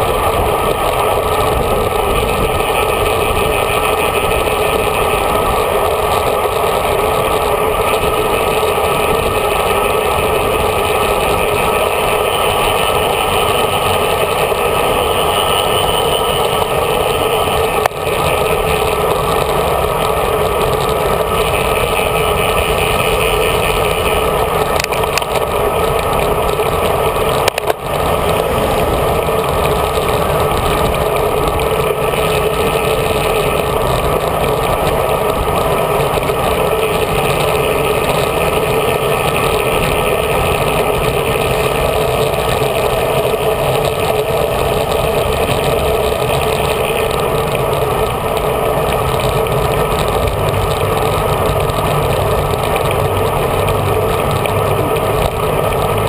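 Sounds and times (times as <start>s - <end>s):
bike road rumble: 0.0s - 56.0s
wind rush: 0.0s - 56.0s.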